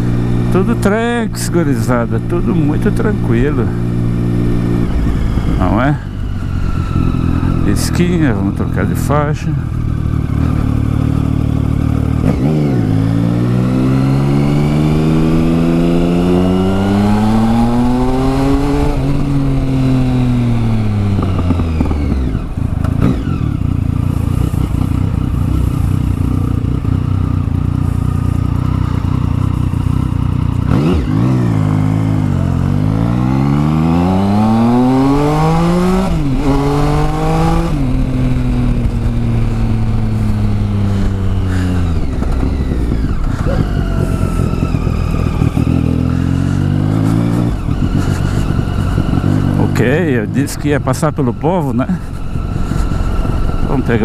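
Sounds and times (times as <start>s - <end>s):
gear change: 0.0s - 54.0s
motorcycle engine revving: 0.0s - 54.0s.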